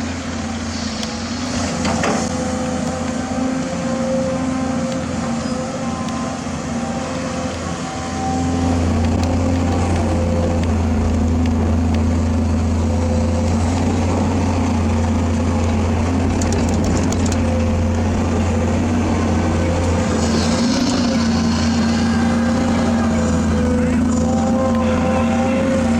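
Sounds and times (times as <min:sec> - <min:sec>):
heavy machinery drone: 0:00.0 - 0:25.9.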